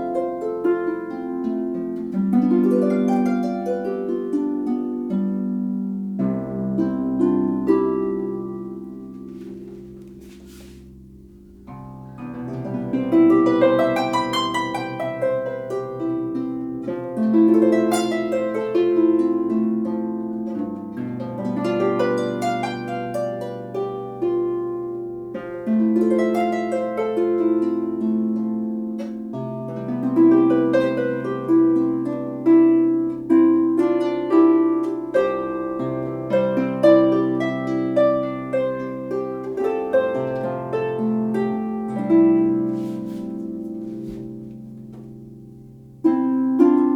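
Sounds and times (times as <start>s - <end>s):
harp arpeggios: 0.0s - 46.9s.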